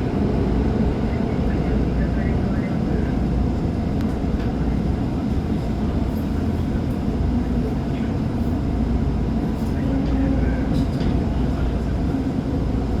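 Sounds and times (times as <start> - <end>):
subway train wheels rumbling on rail: 0.0 - 13.0.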